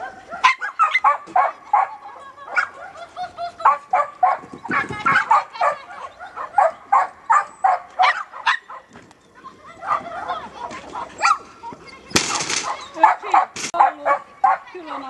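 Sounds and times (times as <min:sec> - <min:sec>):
dog barking in high barks: 0:00.0 - 0:03.0, 0:03.6 - 0:08.9, 0:09.8 - 0:11.5, 0:12.3 - 0:14.8.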